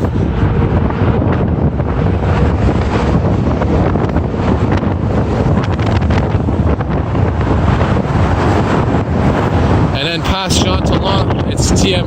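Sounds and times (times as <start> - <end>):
wind gusts buffeting microphone: 0.0 - 12.0.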